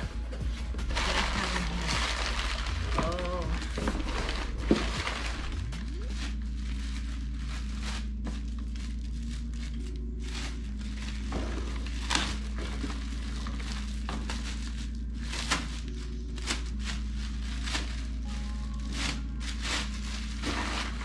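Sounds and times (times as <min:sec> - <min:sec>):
faint background music: 0:00.0 - 0:21.0
low steady hum: 0:00.0 - 0:21.0
packaging crinkling and rustling: 0:00.0 - 0:21.0.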